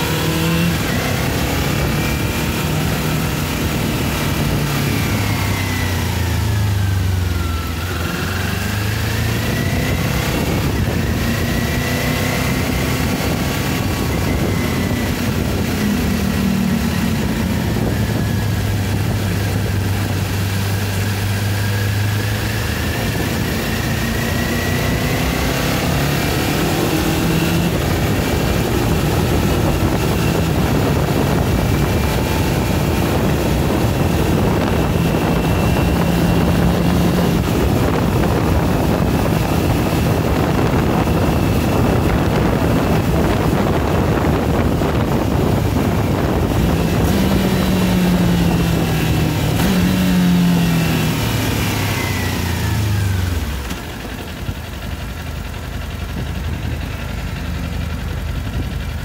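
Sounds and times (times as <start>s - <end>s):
wind on microphone: 0.0s - 54.9s
motorcycle engine accelerating: 0.0s - 59.0s.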